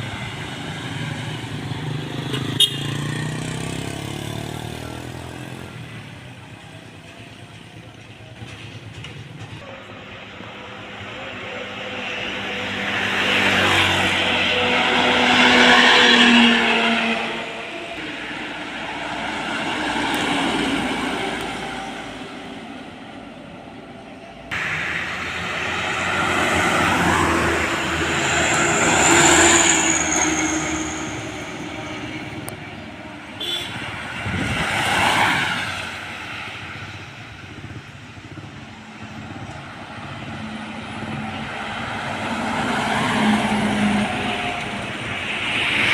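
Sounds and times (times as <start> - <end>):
trucks passing by: 0.0 - 45.9.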